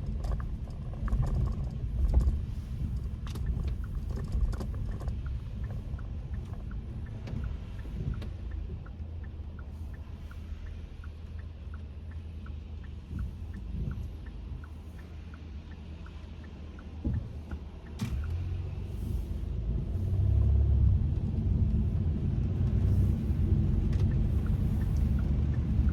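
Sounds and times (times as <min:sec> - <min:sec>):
road and engine rumble: 0:00.0 - 0:25.9
light ticking: 0:00.1 - 0:25.9.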